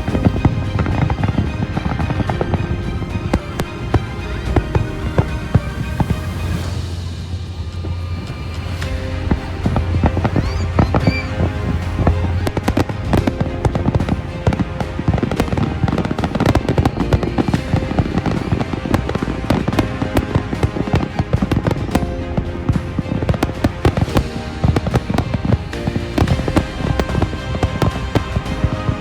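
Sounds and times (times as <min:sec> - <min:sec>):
fireworks bangs and crackles: 0:00.0 - 0:29.0
music playing: 0:00.0 - 0:29.0.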